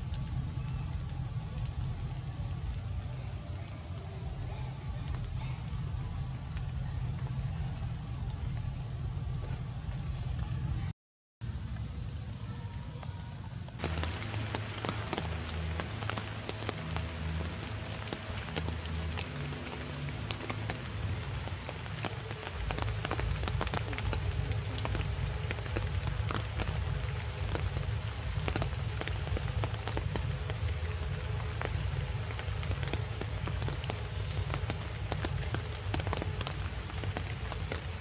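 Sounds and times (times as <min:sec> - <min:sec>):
water drops pattering on leaves: 0:00.0 - 0:10.5, 0:12.7 - 0:38.0
low rumble: 0:00.0 - 0:38.0
steady hiss: 0:00.0 - 0:38.0.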